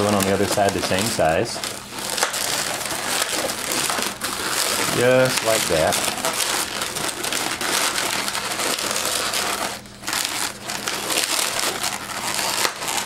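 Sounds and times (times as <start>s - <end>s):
balloons rubbing and scraping: 0.0s - 13.0s.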